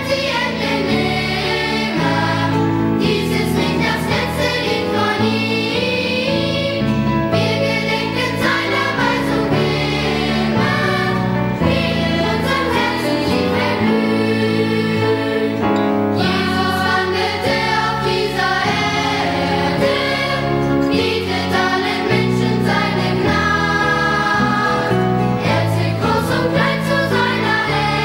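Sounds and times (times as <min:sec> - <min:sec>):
choir singing: 0:00.0 - 0:28.0
instrumental accompaniment: 0:00.0 - 0:28.0.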